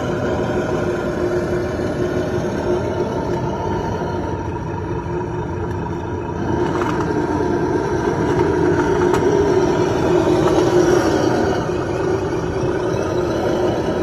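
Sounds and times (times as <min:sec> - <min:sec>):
toy truck drivetrain whine: 0:00.0 - 0:14.0.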